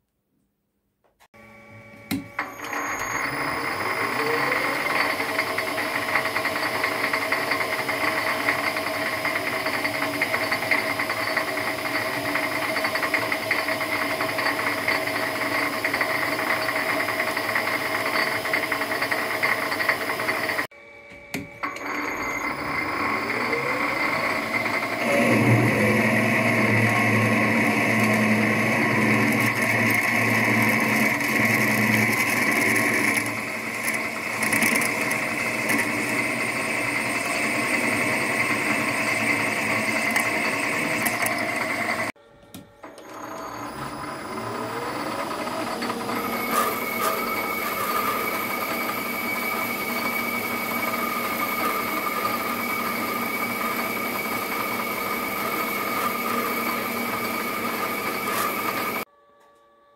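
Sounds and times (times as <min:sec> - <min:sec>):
lathe spinning up whine: 0:01.4 - 0:42.2, 0:42.8 - 0:59.1
metal lathe running: 0:02.1 - 0:20.7, 0:21.3 - 0:42.2, 0:42.8 - 0:59.1
drill boring into brass: 0:02.4 - 0:20.7, 0:21.6 - 0:42.2, 0:42.8 - 0:59.1.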